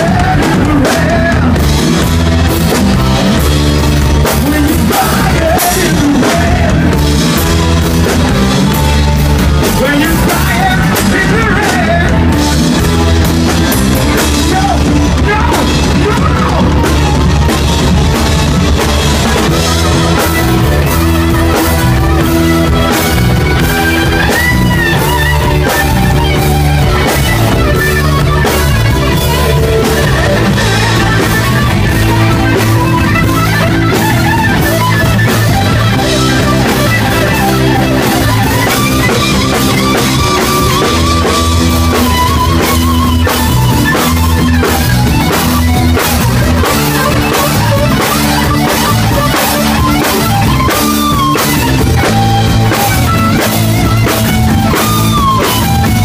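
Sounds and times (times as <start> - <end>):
bending lead guitar line: 0.0 - 56.0
hard rock band playing: 0.0 - 56.0.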